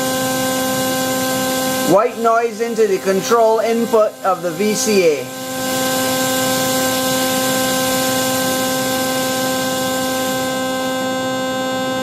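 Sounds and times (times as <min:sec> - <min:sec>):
rough hissy synthesizer tone: 0:00.0 - 0:12.0.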